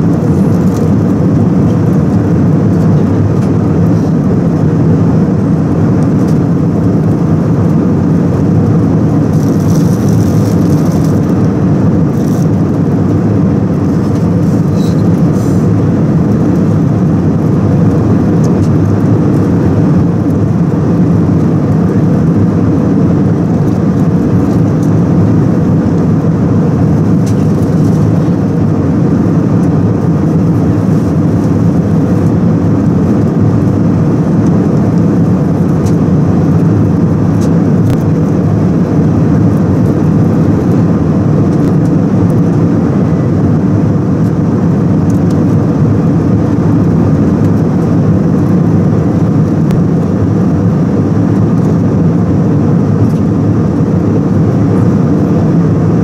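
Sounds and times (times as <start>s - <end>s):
jet engine drone: 0.0s - 56.0s
rushing airflow: 0.0s - 56.0s.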